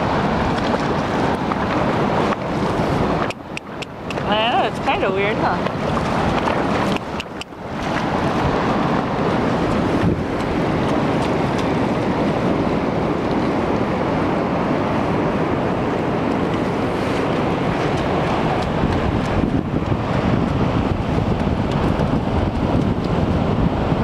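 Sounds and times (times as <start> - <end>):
surf and shallow water: 0.0 - 24.0
wind on microphone: 0.0 - 24.0.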